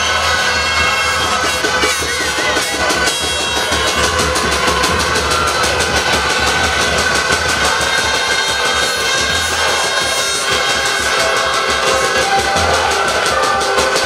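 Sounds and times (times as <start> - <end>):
drum beating fast rhythm: 0.0 - 14.0
stadium crowd: 0.0 - 14.0
steady high tone: 0.0 - 14.0.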